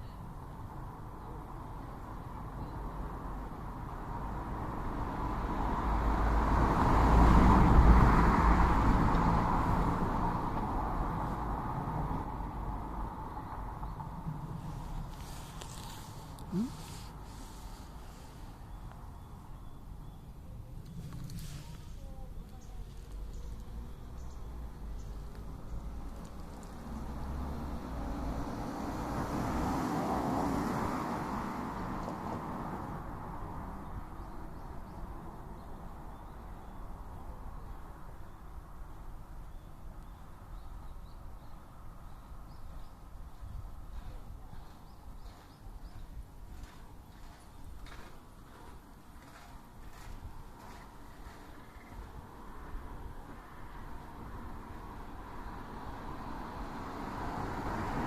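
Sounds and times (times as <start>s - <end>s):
road vehicle passing by: 2.5s - 19.5s, 20.7s - 36.8s, 43.8s - 58.0s.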